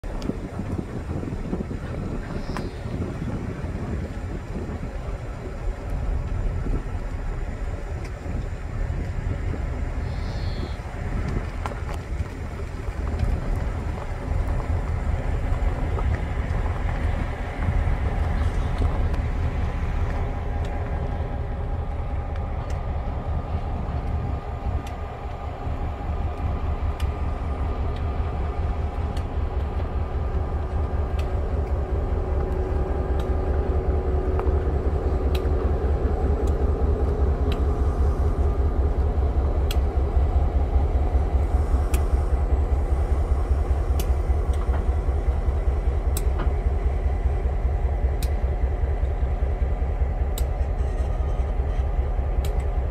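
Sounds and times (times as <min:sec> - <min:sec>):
diesel locomotive engine rumble: 0:00.0 - 0:52.9.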